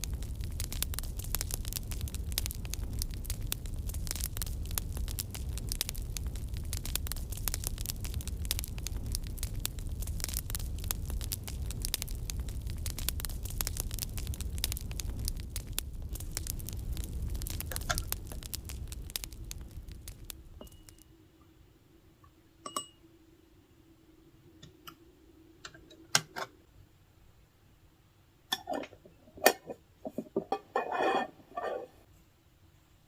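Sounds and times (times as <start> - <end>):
fireplace crackling: 0.0 - 26.7.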